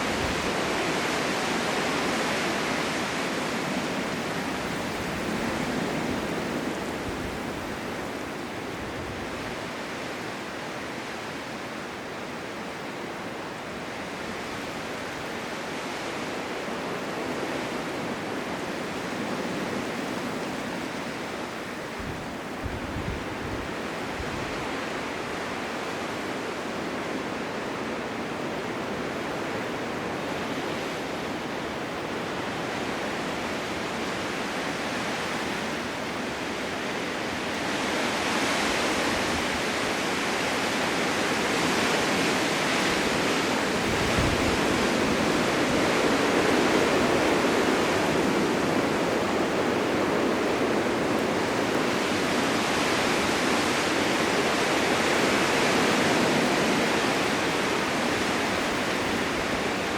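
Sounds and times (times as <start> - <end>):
blizzard wind blowing: 0.0 - 59.9.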